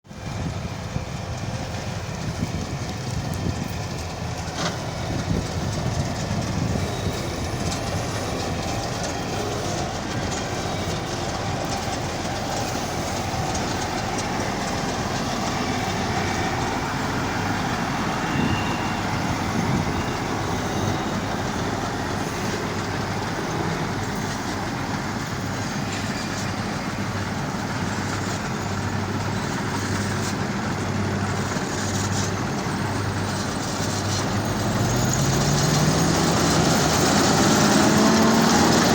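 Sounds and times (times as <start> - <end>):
combine harvester running: 0.1 - 38.9.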